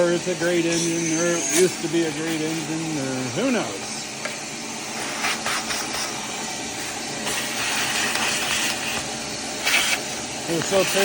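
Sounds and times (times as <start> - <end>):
vacuum cleaner running: 0.0 - 11.0
vacuum hissing rushes: 0.0 - 11.0.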